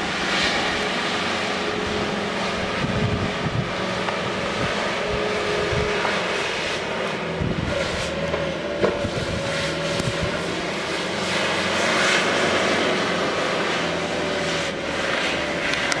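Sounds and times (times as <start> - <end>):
blizzard wind blowing: 0.0 - 16.0.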